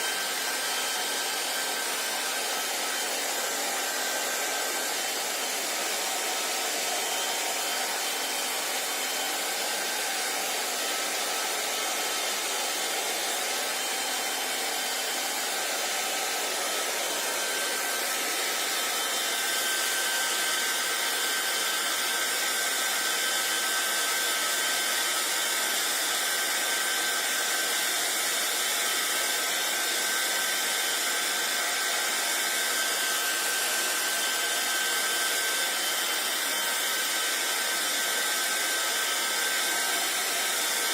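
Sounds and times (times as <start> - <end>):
hair dryer blowing air: 0.0 - 40.9.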